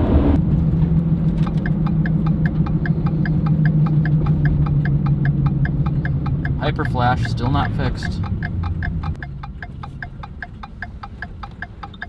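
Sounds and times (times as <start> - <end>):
engine droning: 0.0 - 12.0
turn-signal flasher clicking fast: 1.2 - 12.0.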